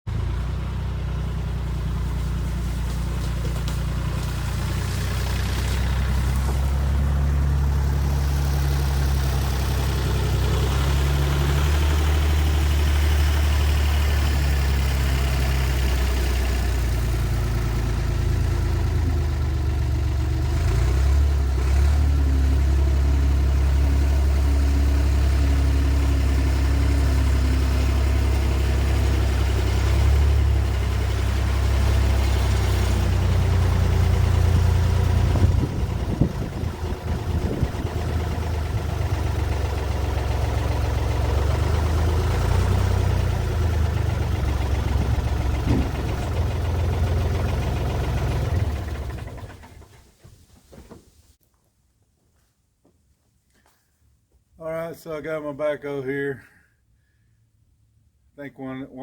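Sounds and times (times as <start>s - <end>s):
diesel engine running: 0.1s - 50.2s.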